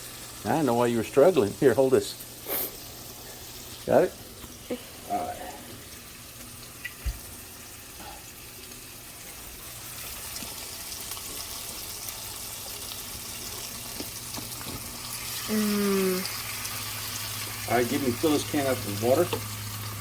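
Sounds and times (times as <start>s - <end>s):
meat and onions sizzling in pan: 0.0s - 20.0s.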